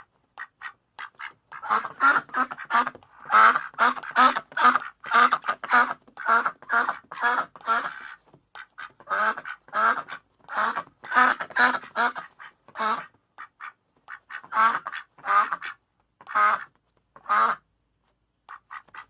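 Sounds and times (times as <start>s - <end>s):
duck quacking: 0.0s - 17.7s, 18.5s - 19.0s.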